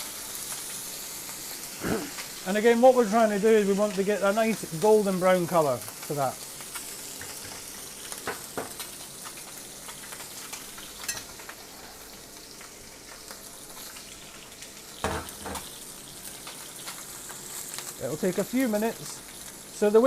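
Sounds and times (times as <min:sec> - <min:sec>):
chicken sizzling in a pan: 0:00.0 - 0:20.0.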